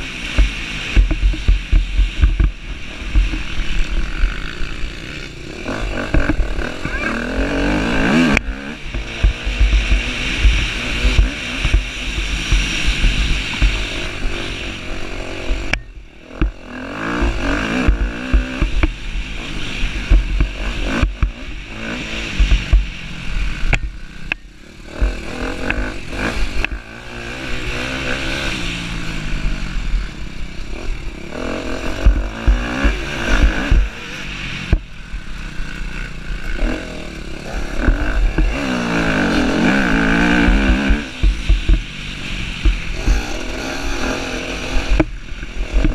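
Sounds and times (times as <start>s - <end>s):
motorcycle engine revving: 0.0s - 45.9s
wind rumbling on microphone: 0.0s - 45.9s.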